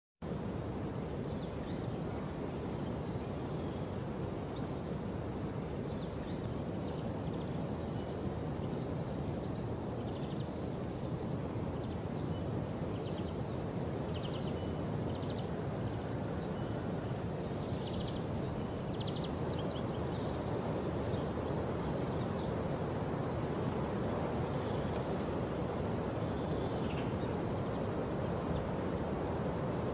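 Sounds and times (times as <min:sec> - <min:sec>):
low rumbling outdoor noise: 0:00.2 - 0:29.9.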